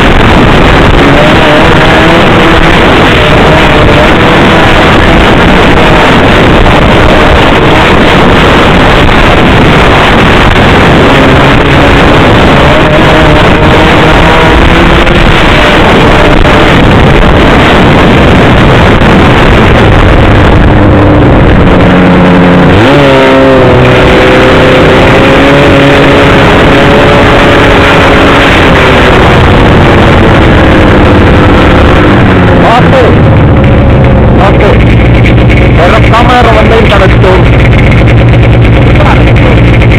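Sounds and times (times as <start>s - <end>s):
snowmobile engine running: 0.0s - 39.9s
snowmobile track noise: 0.0s - 39.9s
wind noise: 0.0s - 39.9s.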